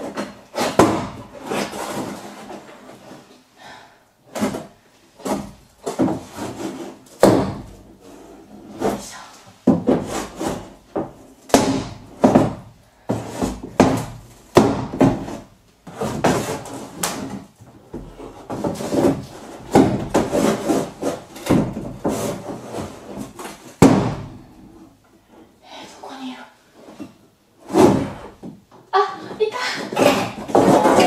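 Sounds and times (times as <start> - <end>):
metal bar scraping wood paneling: 0.0 - 3.4, 4.3 - 11.2, 11.8 - 25.6, 26.7 - 31.0.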